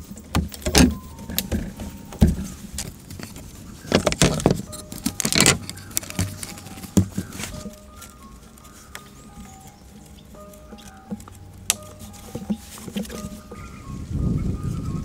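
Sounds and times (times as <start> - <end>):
bamboo slats knocking and scraping: 0.0 - 13.8.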